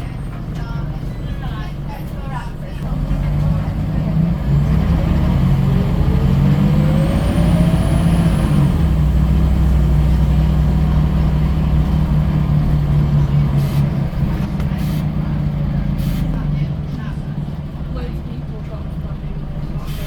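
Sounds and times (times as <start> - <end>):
bus engine whine and drone: 0.0 - 20.0.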